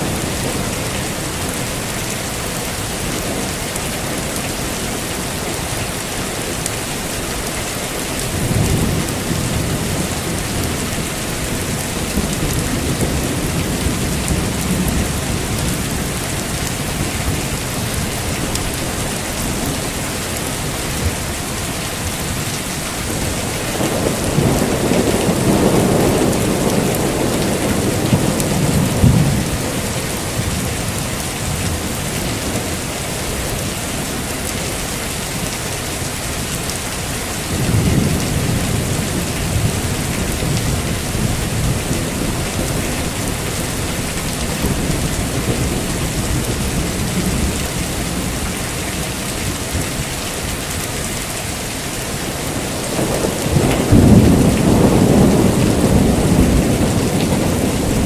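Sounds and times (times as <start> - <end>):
heavy rain falling: 0.0 - 58.0
thunder rumbling: 8.2 - 34.8, 36.0 - 50.1, 52.0 - 58.0.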